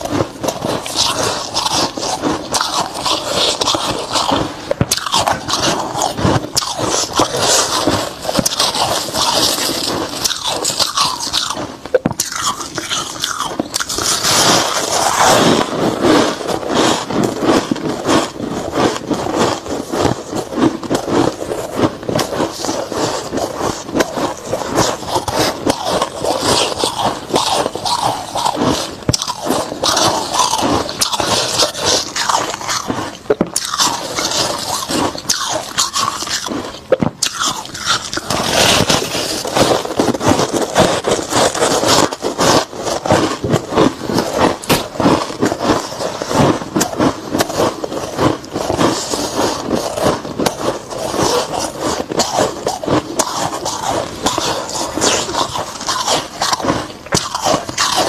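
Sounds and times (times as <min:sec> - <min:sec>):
chewing crunchy frost: 0:00.0 - 0:58.0.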